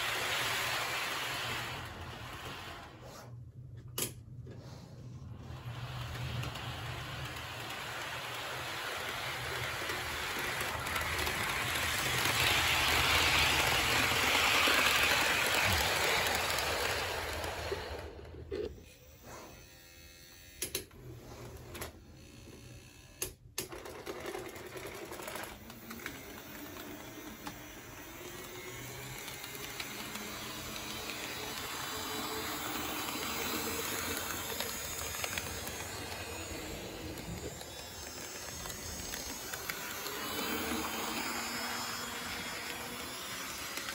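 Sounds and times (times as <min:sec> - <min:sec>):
model train running on track: 0:00.0 - 0:03.0, 0:05.4 - 0:21.0, 0:21.7 - 0:43.9.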